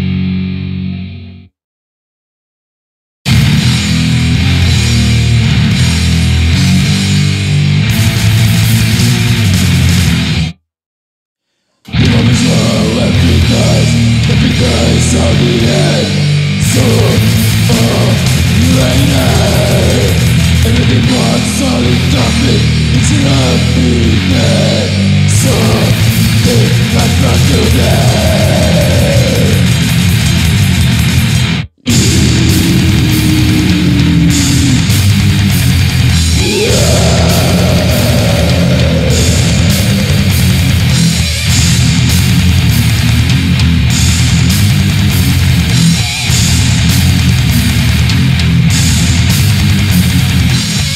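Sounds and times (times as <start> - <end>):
death metal music: 0.0 - 1.5, 3.3 - 10.6, 11.8 - 50.9.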